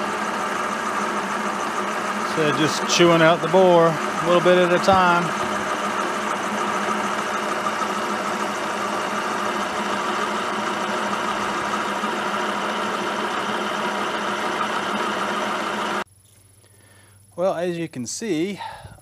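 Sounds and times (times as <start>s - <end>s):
machine spindle boring metal: 0.0s - 16.0s.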